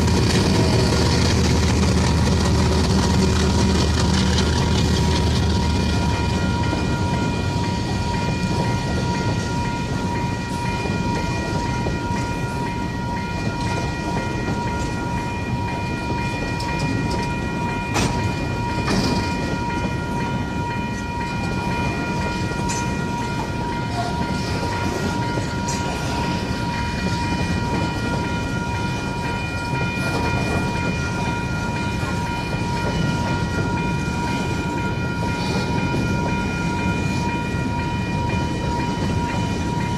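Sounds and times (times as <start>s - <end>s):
crossing bell ringing tones: 0.0s - 39.9s
train wagons rumbling over rails: 0.0s - 39.9s.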